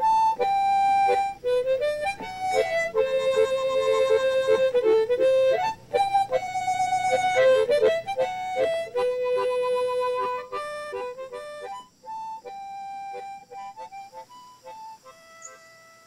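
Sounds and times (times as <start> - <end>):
single-line melody: 0.0 - 16.0.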